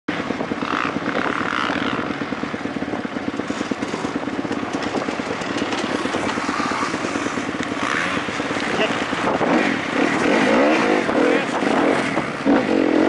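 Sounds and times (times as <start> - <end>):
dirt bike engine idling: 0.1 - 13.0
dirt bikes revving: 0.1 - 13.0.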